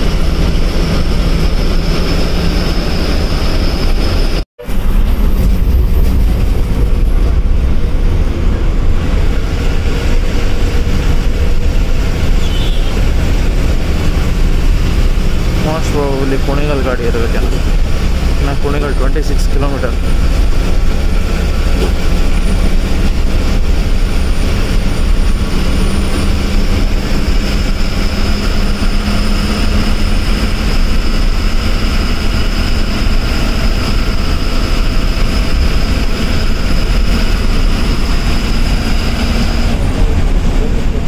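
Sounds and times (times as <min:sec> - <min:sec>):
diesel bus engine drone: 0:00.0 - 0:41.0
road rumble: 0:00.0 - 0:41.0.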